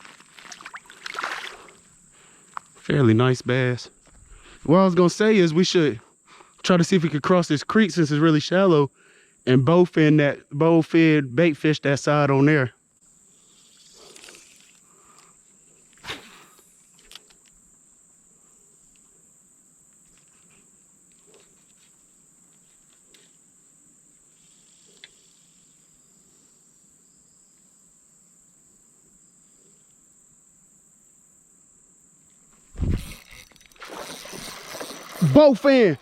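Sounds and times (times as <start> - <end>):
high-pitched insect trill: 0.0 - 10.5, 11.7 - 36.0.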